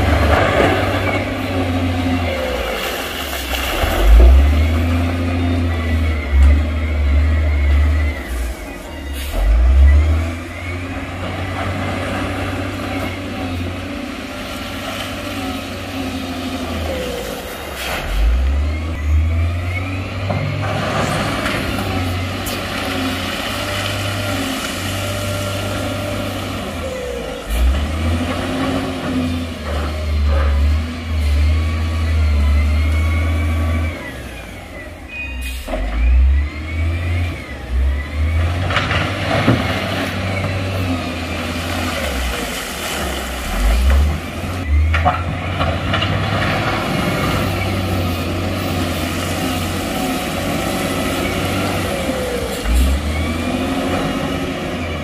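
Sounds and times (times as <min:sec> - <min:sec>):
truck diesel engine revving: 0:00.0 - 0:55.0.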